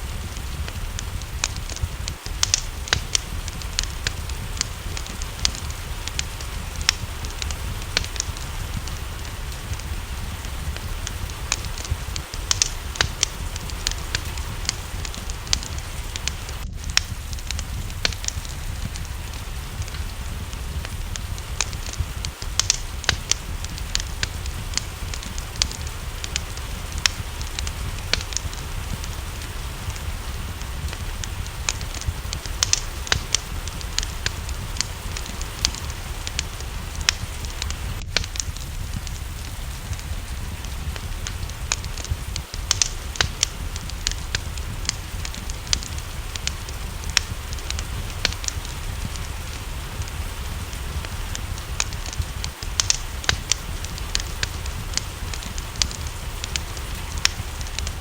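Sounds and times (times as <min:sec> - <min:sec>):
low rumble: 0:00.0 - 0:58.0
rain hissing: 0:00.0 - 0:58.0
wood fire crackling: 0:00.0 - 0:58.0.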